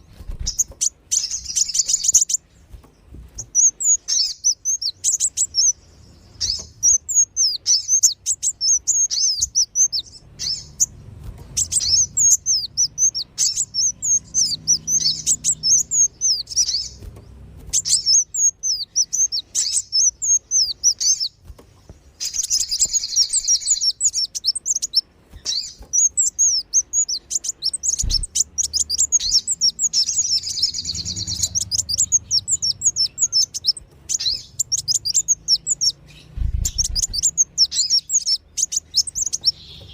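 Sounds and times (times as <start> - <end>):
high-pitched bird chirping twitters: 0.2 - 2.5, 3.3 - 21.4, 22.1 - 39.9.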